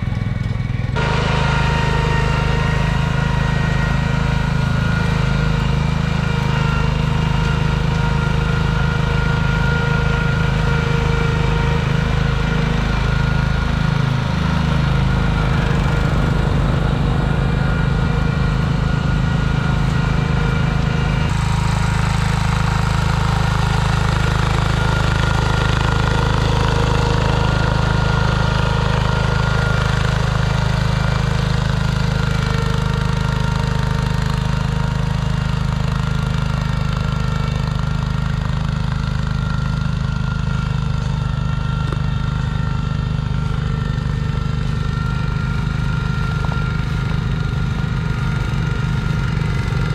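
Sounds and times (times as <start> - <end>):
garden tractor engine running: 0.0 - 49.9.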